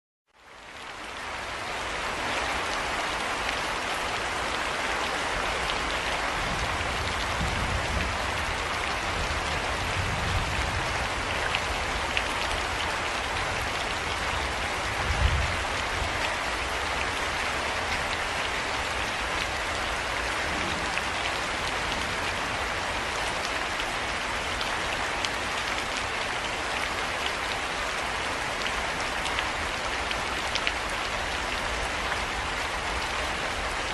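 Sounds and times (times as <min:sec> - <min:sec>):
heavy rain pattering: 0:00.4 - 0:33.9.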